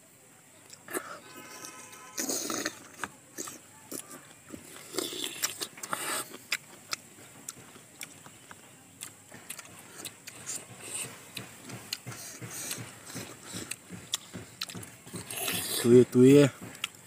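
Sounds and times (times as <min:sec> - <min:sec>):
fruit being crunched and chewed: 0:00.6 - 0:17.0.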